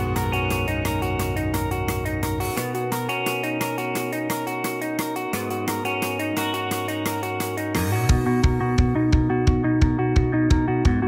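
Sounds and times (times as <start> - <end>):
background music with quick beat: 0.0 - 11.0.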